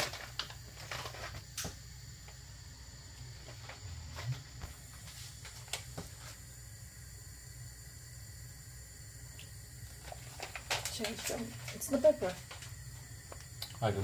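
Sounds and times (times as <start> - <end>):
soup simmering hiss: 0.0 - 14.0.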